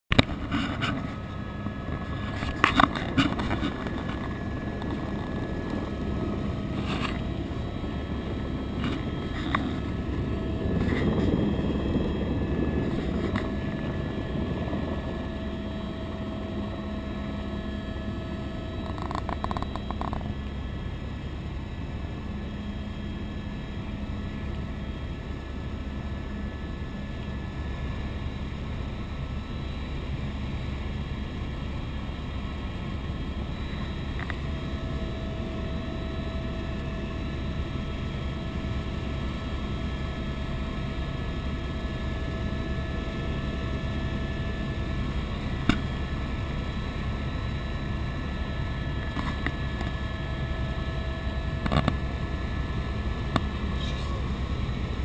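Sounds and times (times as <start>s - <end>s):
helicopter engine and rotor: 0.1s - 55.0s.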